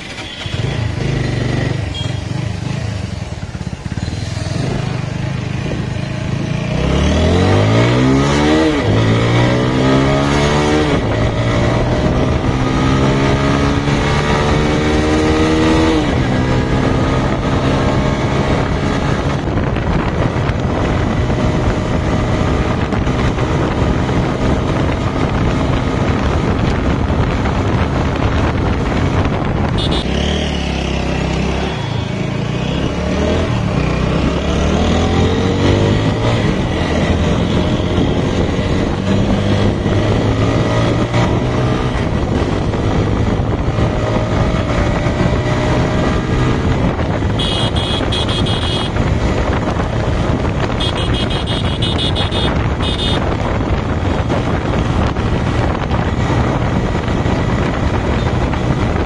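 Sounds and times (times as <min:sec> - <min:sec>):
motorcycle engine accelerating: 0:00.0 - 0:59.0
wind rushing over microphone: 0:04.5 - 0:59.0.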